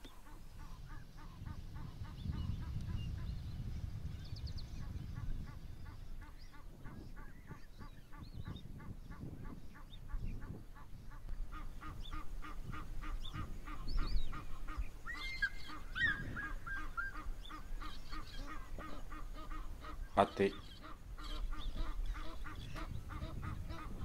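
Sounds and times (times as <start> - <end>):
bird gliding call: 0.0 - 3.4, 4.6 - 24.0.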